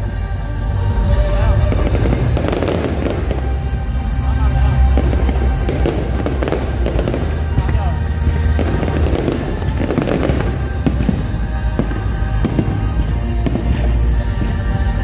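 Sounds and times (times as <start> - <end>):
loud music with heavy bass: 0.0 - 15.0
fireworks bangs and crackles: 0.8 - 15.0.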